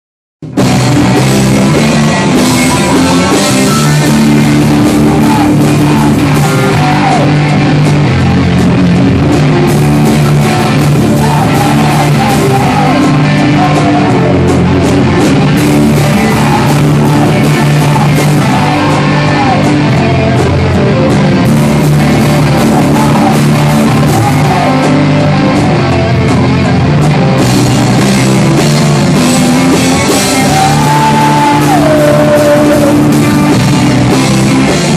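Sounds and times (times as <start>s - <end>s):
drum kit: 0.4s - 34.9s
electric guitar: 0.4s - 34.9s
rock band playing: 0.4s - 34.9s.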